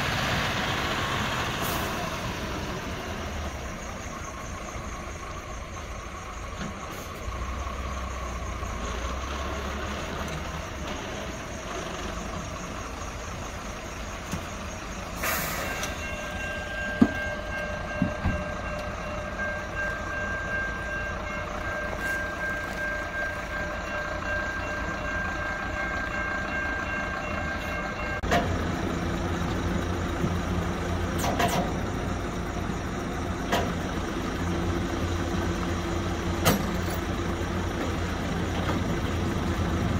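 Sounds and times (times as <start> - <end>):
tow truck engine: 0.0 - 39.9.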